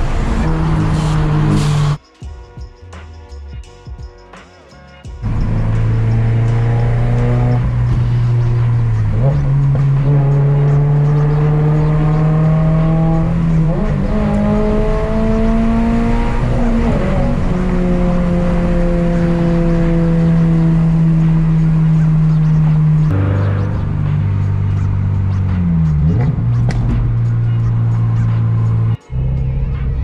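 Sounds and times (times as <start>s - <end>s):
car engine accelerating: 0.0s - 2.0s, 5.2s - 30.0s.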